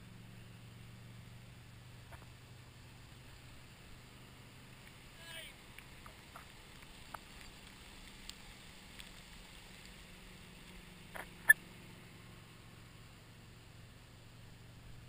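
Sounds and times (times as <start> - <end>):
faint boat engine hum: 0.0 - 15.0.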